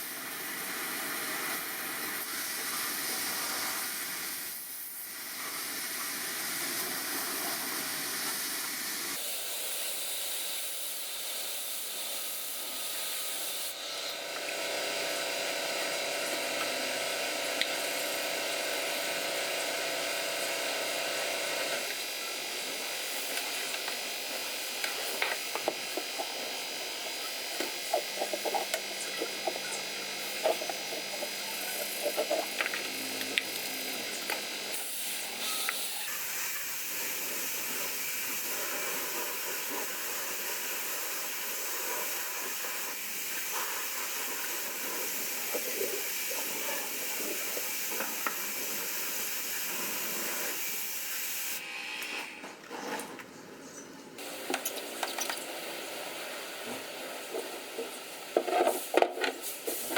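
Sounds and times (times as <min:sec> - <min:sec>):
hissing spray: 0:00.0 - 0:51.6, 0:54.2 - 0:59.9.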